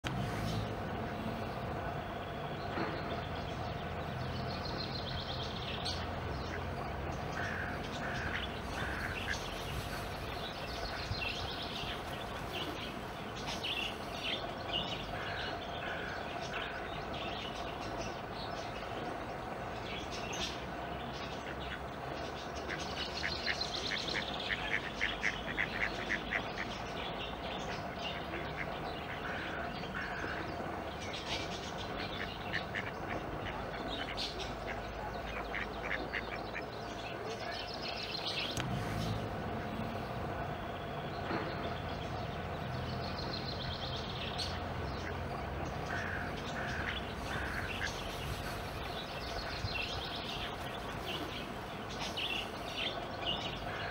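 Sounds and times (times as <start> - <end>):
waterbirds calling: 0.0 - 53.9
steady background hum: 0.1 - 53.9.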